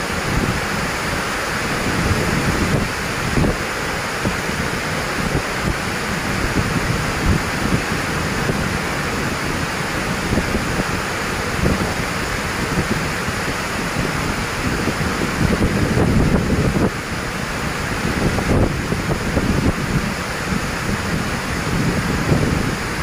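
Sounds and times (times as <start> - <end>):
storm wind on microphone: 0.0 - 23.0.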